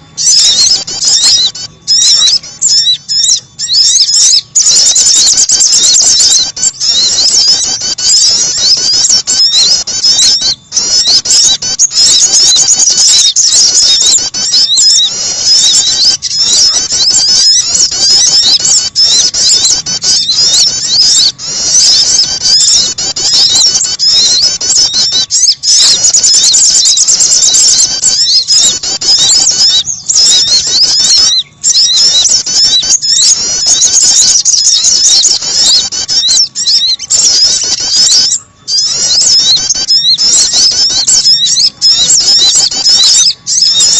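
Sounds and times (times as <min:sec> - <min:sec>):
small songbirds chirping: 0:00.0 - 0:43.9.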